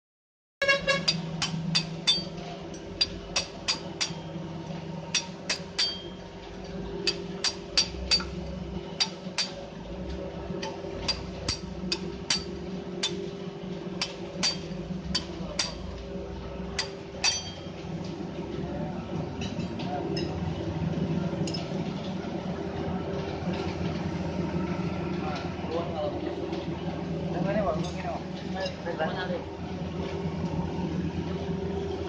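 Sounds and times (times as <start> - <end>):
low steady hum: 0.6 - 32.0.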